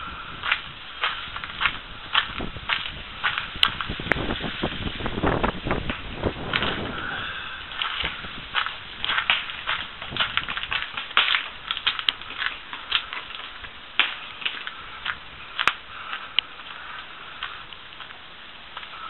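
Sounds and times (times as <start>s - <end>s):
footsteps crunching on icy snow: 0.0s - 19.0s.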